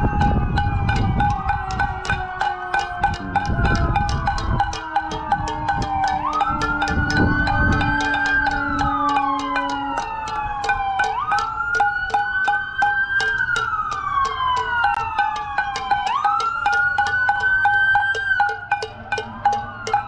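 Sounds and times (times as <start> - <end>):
emergency sirens wailing: 0.0 - 20.0.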